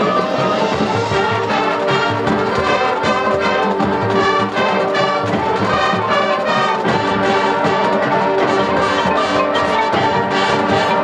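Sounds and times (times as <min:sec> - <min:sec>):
brass chords: 0:00.0 - 0:11.0
drum strokes: 0:00.0 - 0:11.0
marching band playing: 0:00.0 - 0:11.0.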